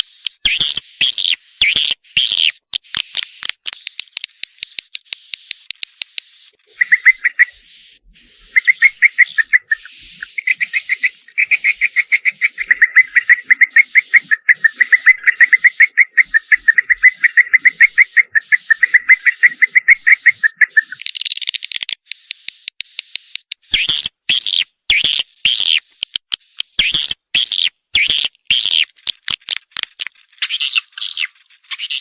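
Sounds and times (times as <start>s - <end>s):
bird chirps: 0.0s - 21.5s, 22.9s - 29.2s, 30.3s - 32.0s
swiftlet twittering clicks: 0.0s - 32.0s.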